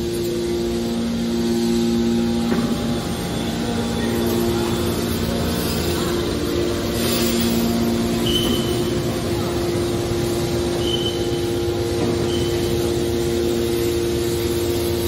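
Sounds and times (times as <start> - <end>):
hydraulic pumps humming: 0.0 - 15.0.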